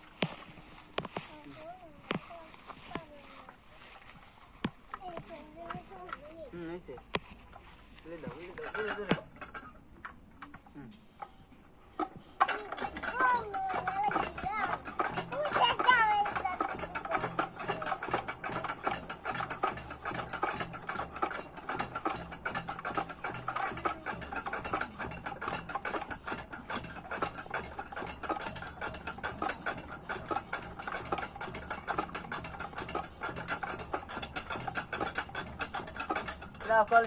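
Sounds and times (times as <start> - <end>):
crank mechanism clicking: 4.6 - 37.0.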